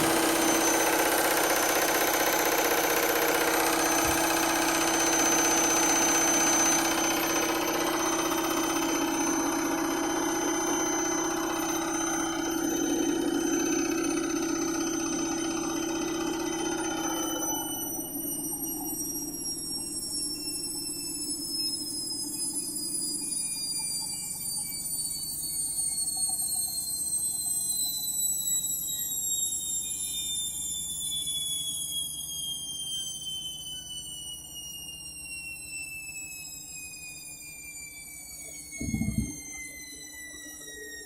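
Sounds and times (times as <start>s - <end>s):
washing machine spin hum and whine: 0.0s - 41.0s.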